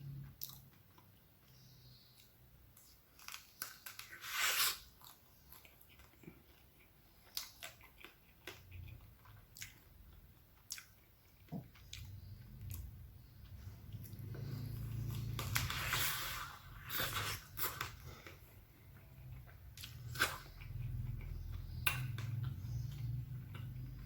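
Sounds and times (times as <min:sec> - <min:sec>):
chewing crisp wafer: 0:02.2 - 0:24.0.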